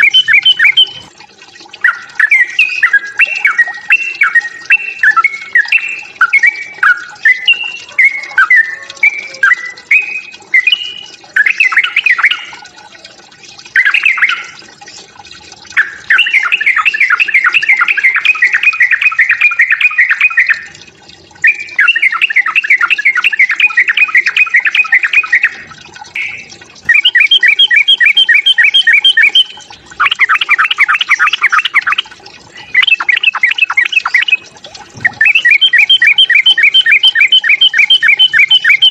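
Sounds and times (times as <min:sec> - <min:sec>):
bird whistled calls and chattering: 0:00.0 - 0:01.1, 0:01.8 - 0:12.8, 0:13.7 - 0:14.6, 0:15.7 - 0:20.8, 0:21.4 - 0:34.4, 0:35.0 - 0:38.9.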